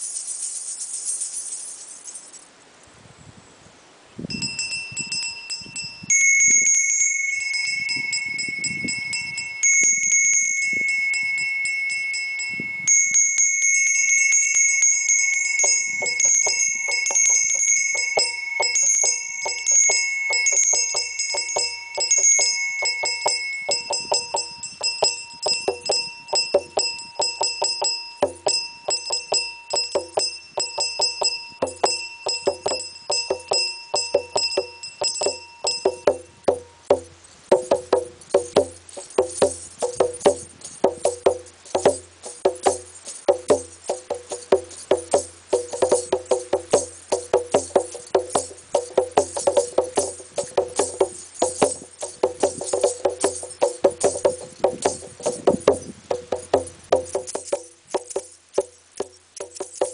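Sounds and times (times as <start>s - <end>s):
hand bells ringing: 0.0s - 2.4s, 4.3s - 59.9s.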